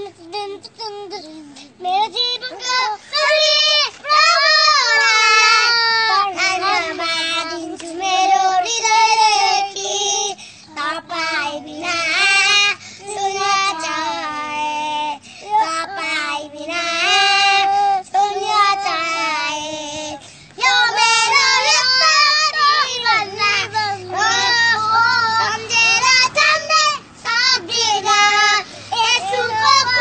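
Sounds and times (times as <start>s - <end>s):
boys singing: 0.0s - 30.0s.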